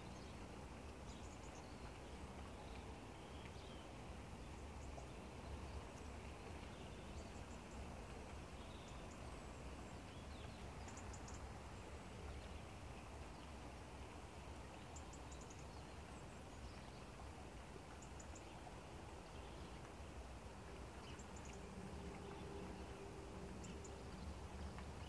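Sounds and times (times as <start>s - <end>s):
light rain hissing: 0.0s - 25.0s.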